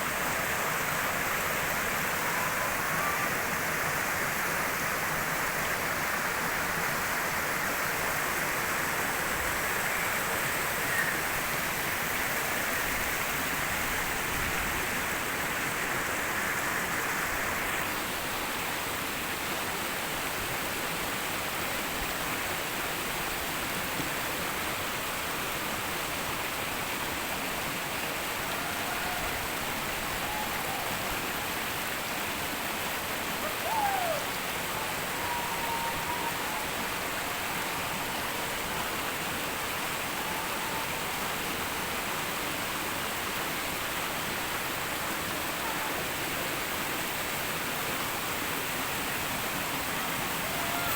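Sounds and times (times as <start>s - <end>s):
flowing water: 0.0s - 50.9s.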